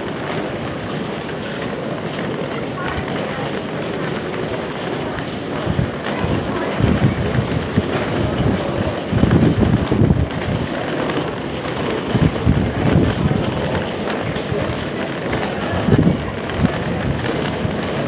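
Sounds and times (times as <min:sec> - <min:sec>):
background rush of noise: 0:00.0 - 0:18.0
wind buffeting microphone: 0:00.0 - 0:18.0.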